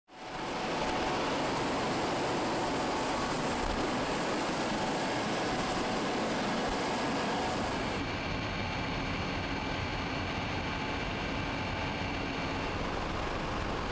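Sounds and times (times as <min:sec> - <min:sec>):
helicopter turbine engine running: 0:00.1 - 0:13.9.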